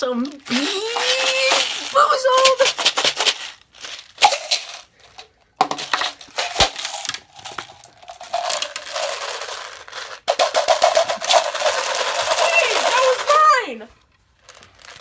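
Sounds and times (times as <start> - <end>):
jelly beans pouring and rattling: 0.0 - 15.0.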